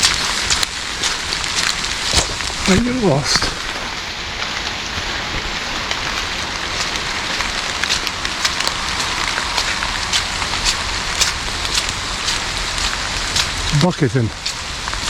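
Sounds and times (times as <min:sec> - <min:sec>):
sharp raindrop ticks: 0:00.0 - 0:05.1, 0:05.8 - 0:15.0
heavy rain hiss: 0:00.0 - 0:15.0.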